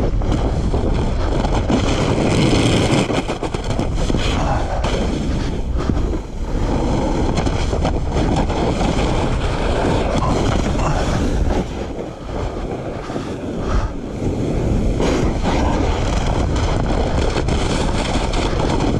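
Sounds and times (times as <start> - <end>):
board scraping over snow: 0.0 - 18.9
wind rushing over microphone: 0.0 - 18.9.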